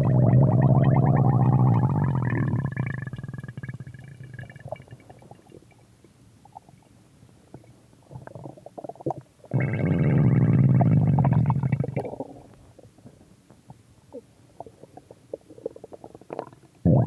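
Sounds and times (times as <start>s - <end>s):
stomach growling: 0.0s - 5.7s, 7.6s - 17.0s
faint stomach gurgles: 0.0s - 17.0s.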